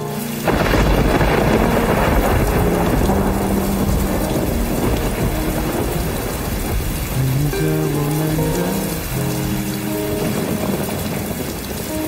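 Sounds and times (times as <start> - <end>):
heavy rain pouring: 0.0 - 12.0
thunder rumbling: 0.0 - 12.0.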